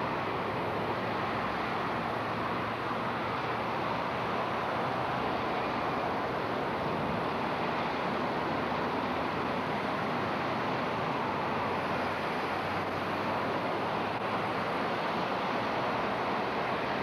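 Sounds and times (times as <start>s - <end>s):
highway traffic roar: 0.0s - 17.0s.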